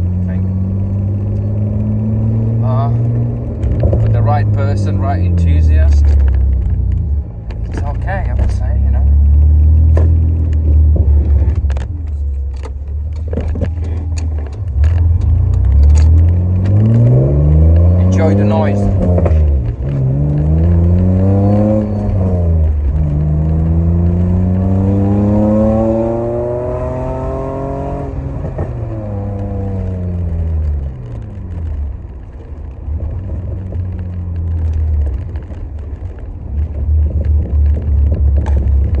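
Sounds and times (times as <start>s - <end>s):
car engine accelerating hard: 0.0s - 39.0s.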